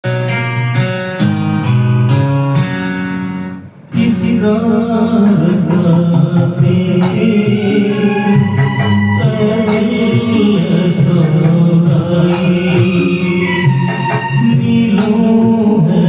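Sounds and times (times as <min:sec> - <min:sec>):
instrumental film song music: 0:00.0 - 0:16.0.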